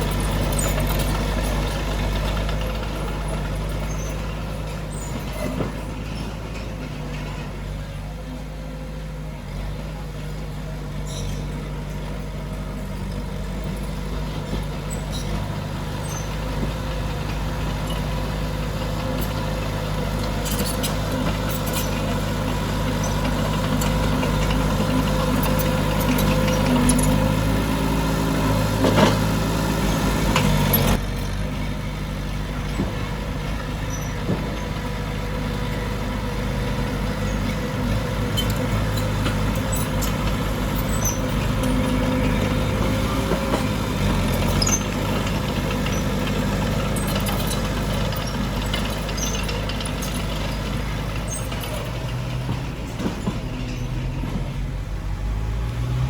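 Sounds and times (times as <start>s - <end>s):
metallic clanks and rattles: 0.0s - 7.8s, 11.1s - 31.6s, 36.7s - 54.7s
diesel engine drone: 0.0s - 56.0s.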